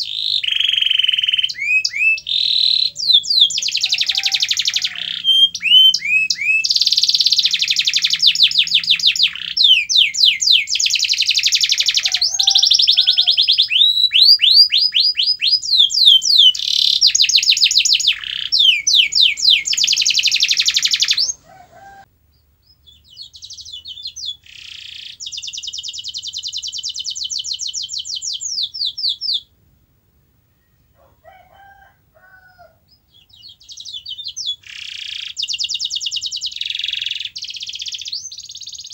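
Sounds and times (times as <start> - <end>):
canary singing trills: 0.0 - 29.5, 32.6 - 38.9.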